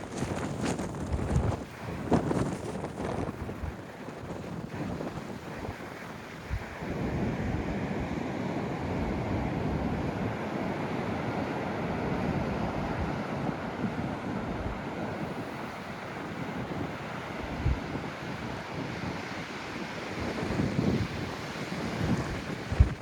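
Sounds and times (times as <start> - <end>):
wind buffeting microphone: 0.0 - 8.2, 12.0 - 23.0.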